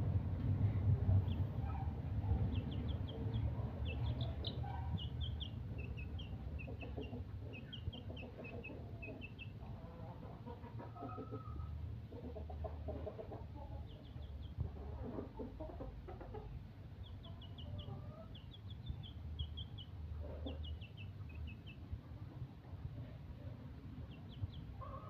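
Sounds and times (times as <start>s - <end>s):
chick peeping: 0.5s - 25.0s
chicken clucking: 1.1s - 25.0s.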